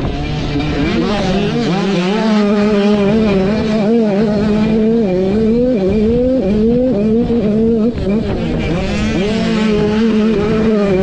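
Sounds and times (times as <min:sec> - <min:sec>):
motocross engine revving: 0:00.0 - 0:11.0.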